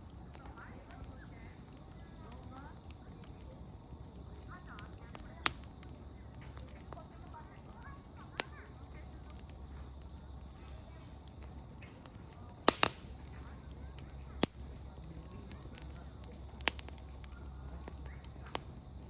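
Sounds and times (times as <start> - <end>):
campfire crackling and popping: 0.0 - 19.0
distant children's voices: 0.0 - 19.0.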